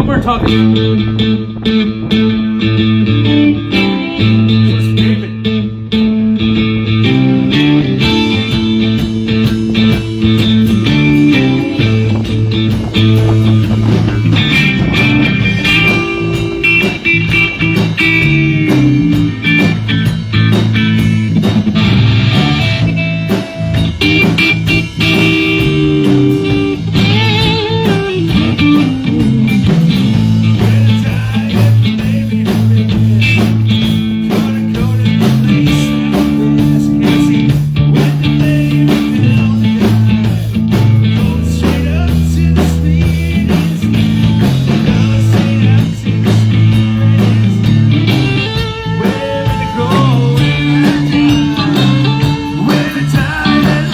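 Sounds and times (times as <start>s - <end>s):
electric guitar lead: 0.0s - 53.9s
live rock band playing: 0.0s - 53.9s.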